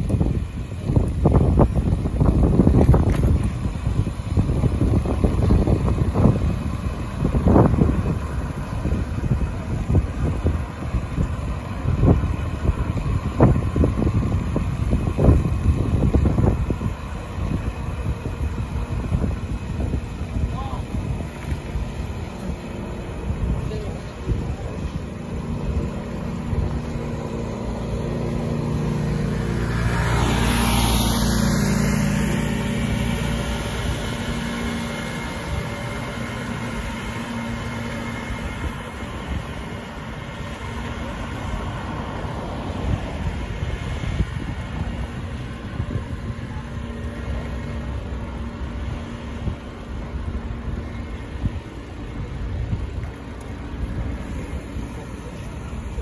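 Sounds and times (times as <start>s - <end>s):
traffic and road noise: 0.0s - 56.0s
vehicle engine running close by: 0.0s - 56.0s
vehicle passing: 3.9s - 56.0s.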